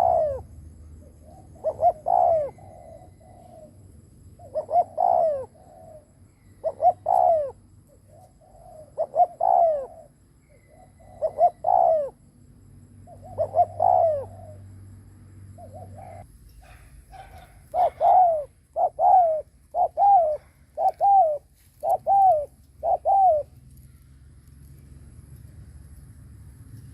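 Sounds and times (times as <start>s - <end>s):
dove cooing: 0.0s - 12.3s, 13.0s - 14.7s, 15.6s - 23.9s.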